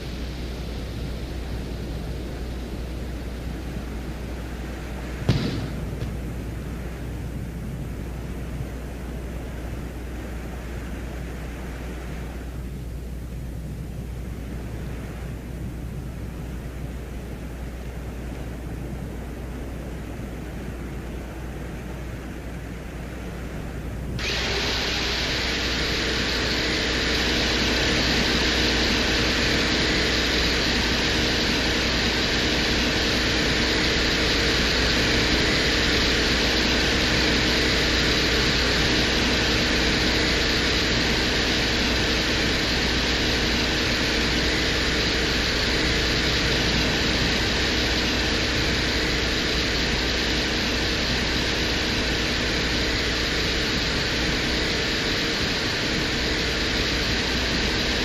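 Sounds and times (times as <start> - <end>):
low hum: 0.0 - 58.0
static-like hiss: 0.0 - 58.0.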